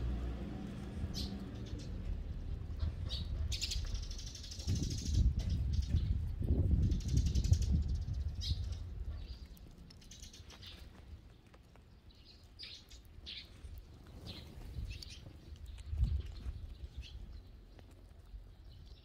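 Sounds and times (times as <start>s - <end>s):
sparrows chirping: 0.0s - 19.0s.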